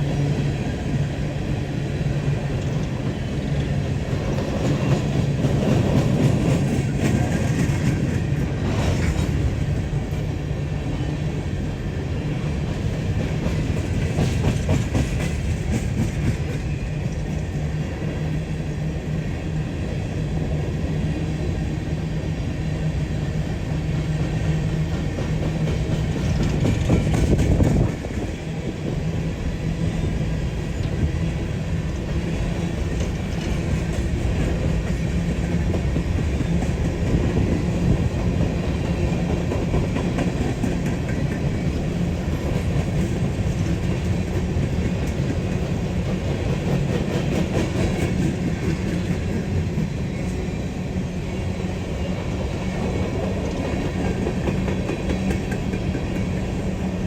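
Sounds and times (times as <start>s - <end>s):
train wheels clicking over track: 0.0s - 20.0s, 22.9s - 50.6s, 51.2s - 57.0s
diesel locomotive drone: 0.0s - 57.0s.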